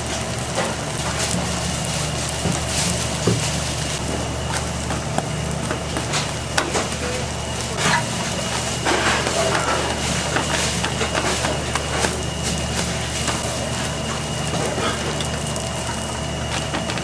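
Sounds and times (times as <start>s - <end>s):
steady low hum: 0.0s - 17.0s
wood fire crackling and popping: 0.0s - 17.0s.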